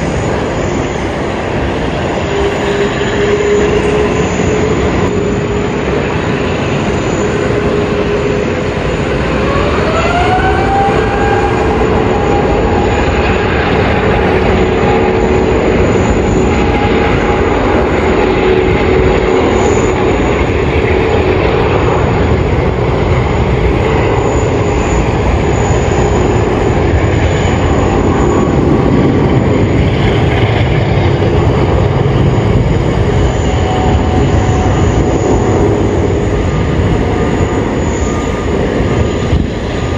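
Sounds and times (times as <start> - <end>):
jet engines at takeoff: 0.0 - 39.9.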